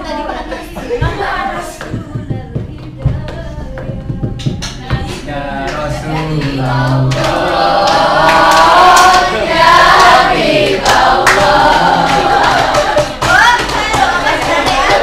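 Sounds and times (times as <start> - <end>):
group of people singing: 0.0 - 15.0
hand claps: 1.8 - 9.3, 9.9 - 15.0.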